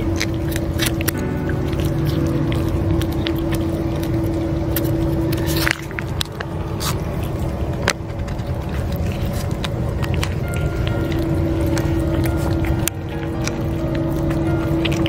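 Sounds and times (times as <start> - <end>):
cats eating from metal dish: 0.0 - 15.0
low engine-like hum: 0.0 - 15.0.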